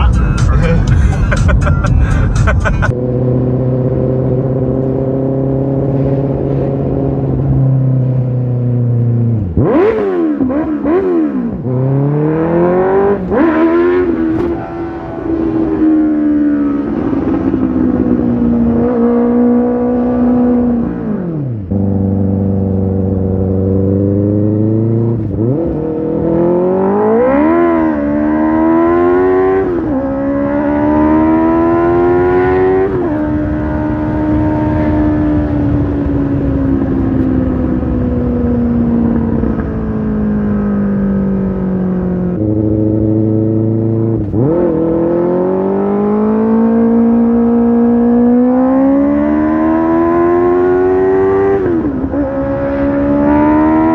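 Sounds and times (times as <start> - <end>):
motorcycle engine revving: 2.1 - 53.9.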